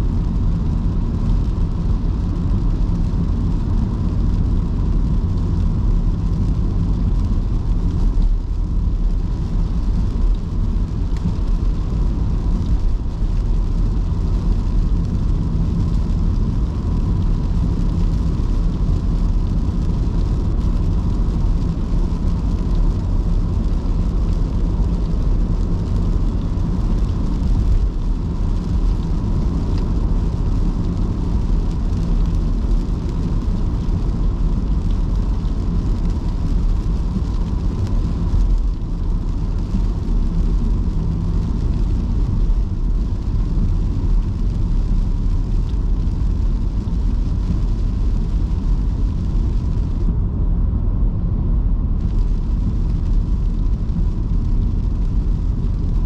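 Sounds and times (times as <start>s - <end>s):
tyres hissing on wet road: 0.0s - 50.1s, 52.0s - 56.0s
car road rumble: 0.0s - 56.0s.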